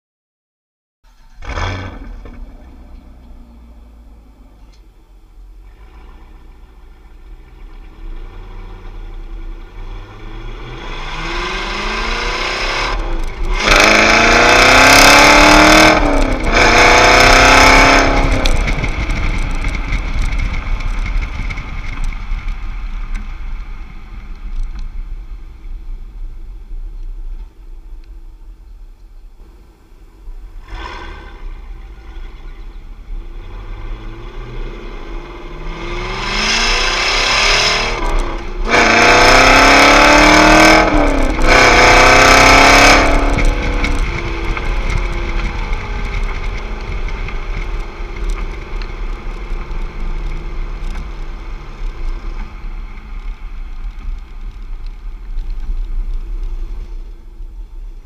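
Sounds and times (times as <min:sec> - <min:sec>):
car exhaust under hard acceleration: 0:01.0 - 0:58.0.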